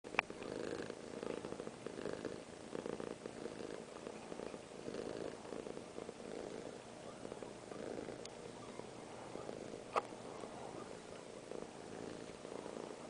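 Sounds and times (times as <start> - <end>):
cat purring: 0.1 - 13.0.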